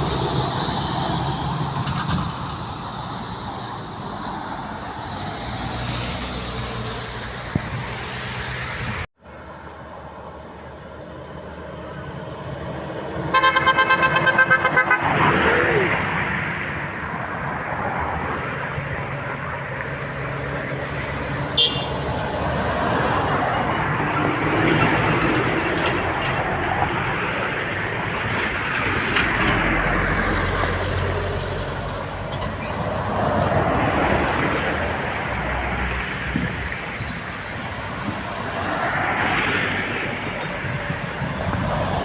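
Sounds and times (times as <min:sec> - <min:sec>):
trucks and traffic passing: 0:00.0 - 0:42.0.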